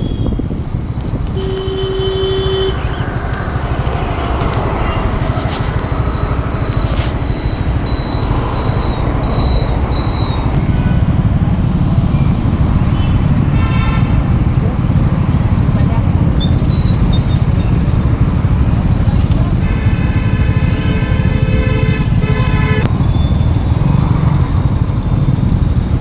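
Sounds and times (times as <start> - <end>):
road traffic rumble: 0.0 - 26.0
vehicle horn: 1.3 - 22.9.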